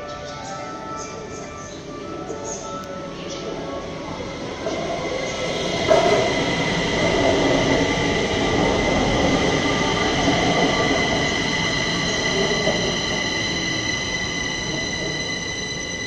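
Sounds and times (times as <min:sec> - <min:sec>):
high-pitched whine: 0:00.0 - 0:16.0
train wheels rumbling on rail: 0:00.0 - 0:16.0.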